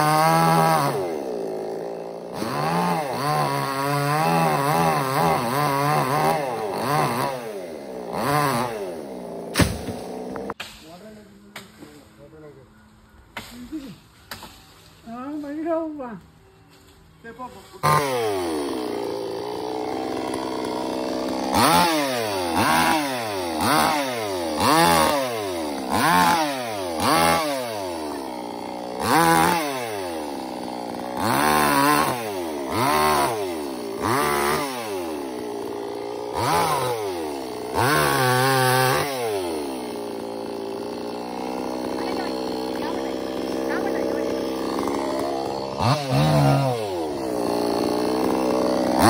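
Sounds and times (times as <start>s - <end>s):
chainsaw idling and revving: 0.0s - 10.6s, 17.8s - 49.0s.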